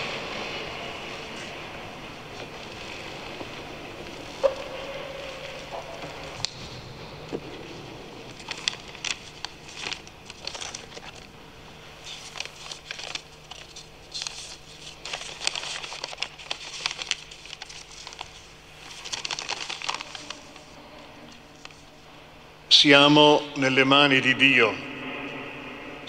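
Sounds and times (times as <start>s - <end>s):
paper rustling and crinkling: 0.0s - 11.4s, 12.0s - 22.1s
faint steady hum: 0.0s - 26.0s.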